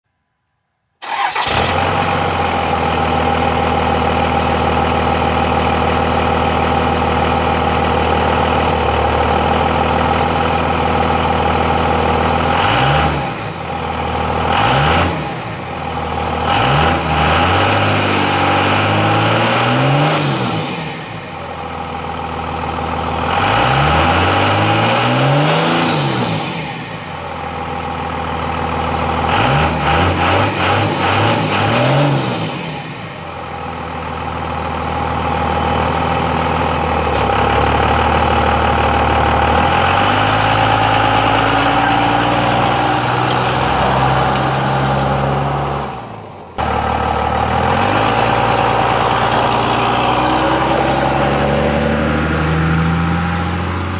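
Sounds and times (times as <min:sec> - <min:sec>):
diesel engine idling and revving: 0:01.0 - 0:53.9.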